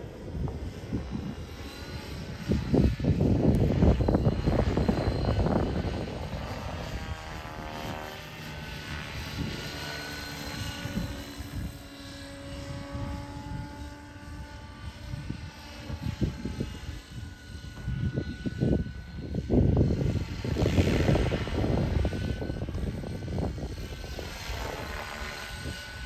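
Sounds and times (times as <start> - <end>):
model helicopter rotor whine: 0.0 - 26.0.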